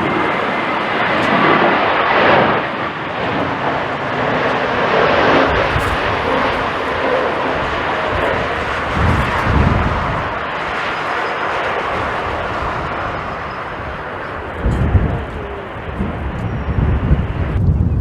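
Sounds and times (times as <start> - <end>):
jet engines roaring: 0.0 - 18.0
wind rumbling on microphone: 0.0 - 18.0.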